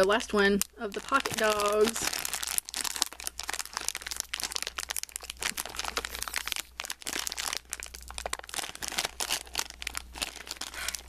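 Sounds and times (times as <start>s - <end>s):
foil packet crinkling: 0.0s - 11.0s.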